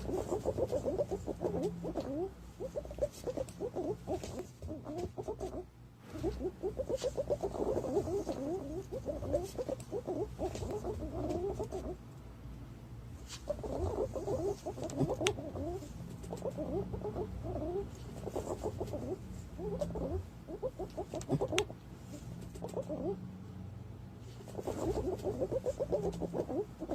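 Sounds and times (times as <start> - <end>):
pigeons chattering calls: 0.0 - 12.0, 13.4 - 21.8, 22.6 - 23.2, 24.5 - 26.9.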